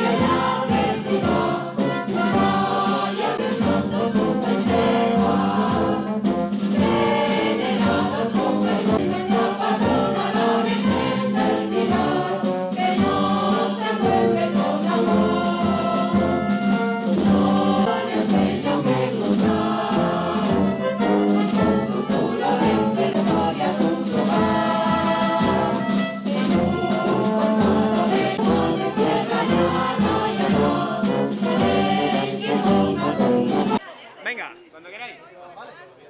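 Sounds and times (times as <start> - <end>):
wind band playing a hymn: 0.0 - 33.8.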